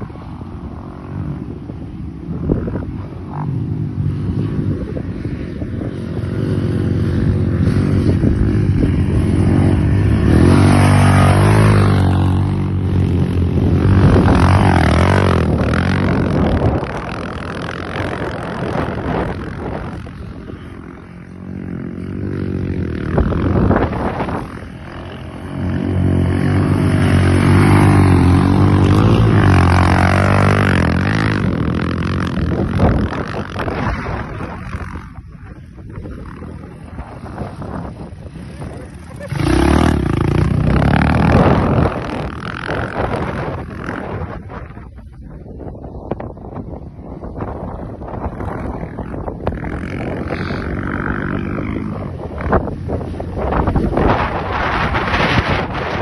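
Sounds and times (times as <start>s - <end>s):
motorcycle engines accelerating hard: 0.0s - 56.0s.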